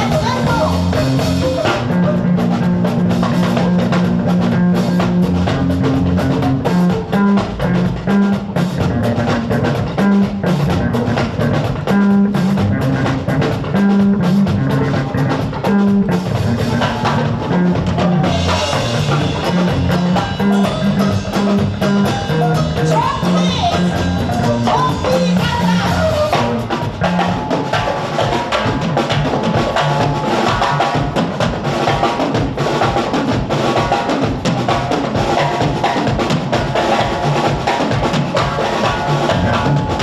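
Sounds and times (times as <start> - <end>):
bass line: 0.0 - 40.0
drum beat: 0.0 - 40.0.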